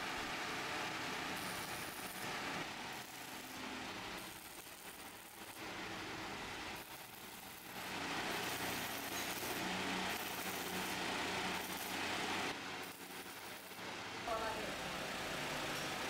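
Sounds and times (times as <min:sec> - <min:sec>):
welding arc crackling and hissing: 0:00.0 - 0:16.0.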